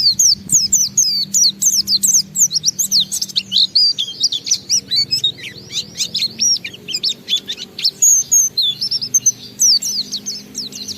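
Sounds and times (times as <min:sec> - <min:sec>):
bird warbling song: 0:00.0 - 0:10.9.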